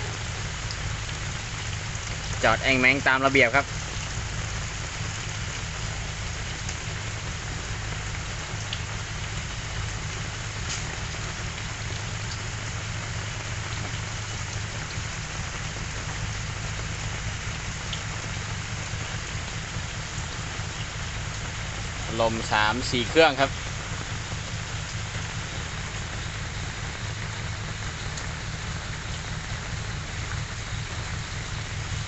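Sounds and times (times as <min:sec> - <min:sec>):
rain hissing: 0:00.0 - 0:32.0
water drips ticking: 0:00.0 - 0:32.0.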